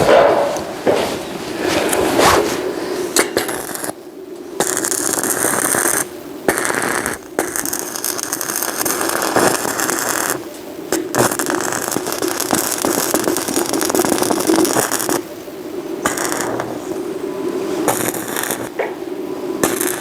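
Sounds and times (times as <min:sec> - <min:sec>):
electric arc welding hiss: 0:00.0 - 0:20.0.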